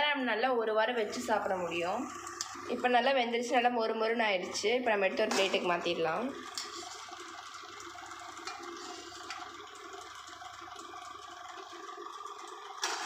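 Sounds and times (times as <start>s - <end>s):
oil sizzling: 1.1s - 3.1s, 4.6s - 13.0s.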